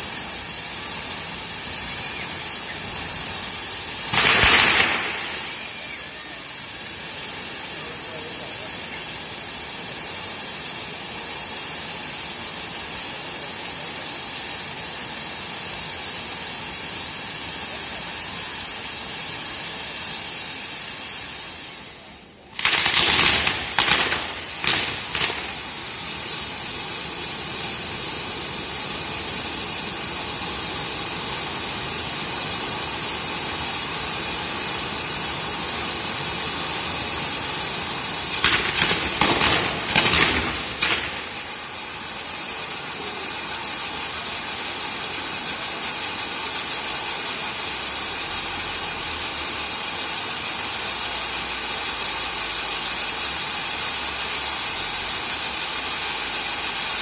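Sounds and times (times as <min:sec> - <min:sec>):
loud firework bangs: 0:00.0 - 0:16.4, 0:17.1 - 0:47.8
firework fountain hissing: 0:00.0 - 0:57.0.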